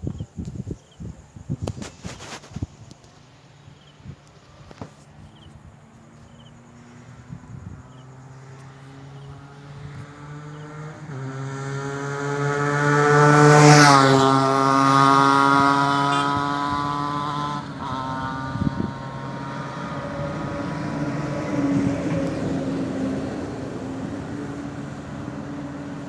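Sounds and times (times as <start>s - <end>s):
motorcycle passing at speed: 5.0s - 26.0s.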